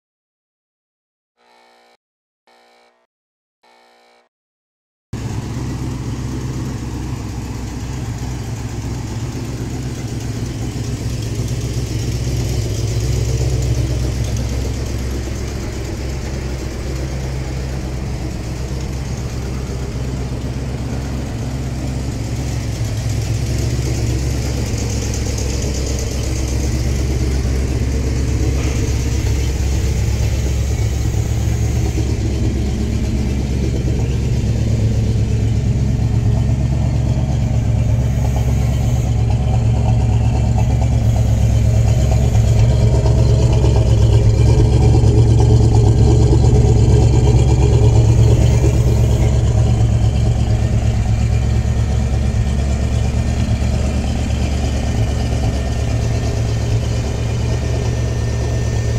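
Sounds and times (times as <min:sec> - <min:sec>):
pickup engine idling: 0:05.2 - 0:58.9.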